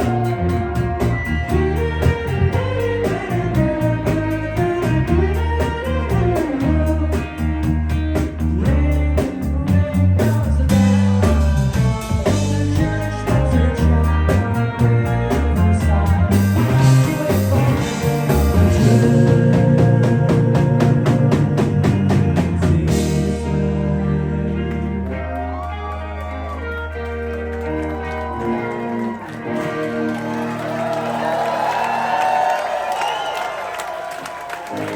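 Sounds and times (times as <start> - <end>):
live rock band playing: 0.0 - 32.3
drums: 0.0 - 34.9
electric guitar: 0.0 - 34.9.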